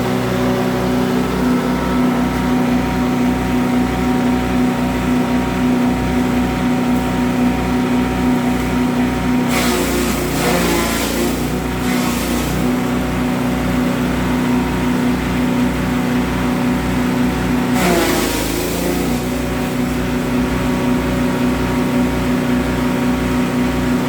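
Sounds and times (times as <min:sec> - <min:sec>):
grass chopper machine humming: 0:00.0 - 0:24.0.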